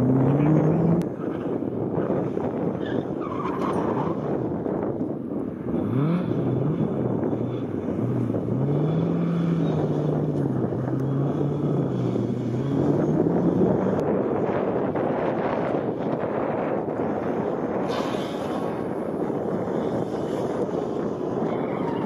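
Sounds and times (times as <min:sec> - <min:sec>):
rally cars accelerating: 0:00.0 - 0:04.8, 0:05.6 - 0:22.0.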